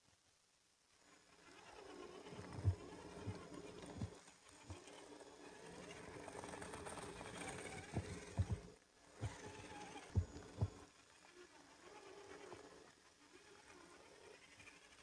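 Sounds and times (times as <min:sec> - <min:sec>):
electric motor and gears whining: 0:01.5 - 0:14.3.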